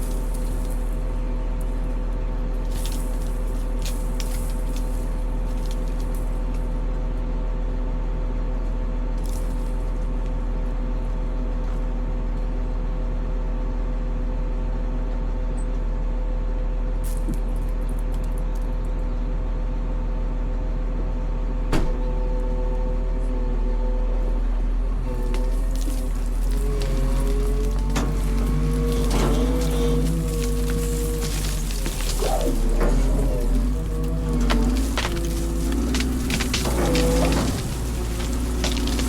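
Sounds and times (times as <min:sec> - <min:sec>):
diesel engine droning: 0:00.0 - 0:15.1, 0:16.0 - 0:39.0.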